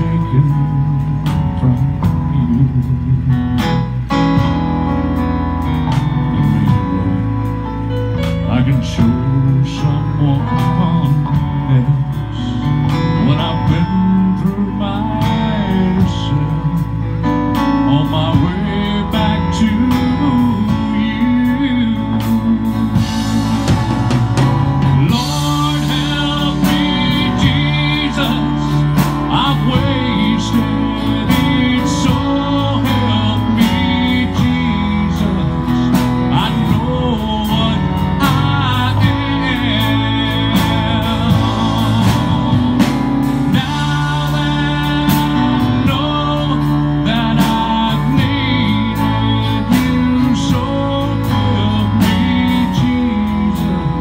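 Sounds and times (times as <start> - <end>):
country gospel band playing: 0.0 - 54.0
man singing lead vocal: 0.0 - 54.0.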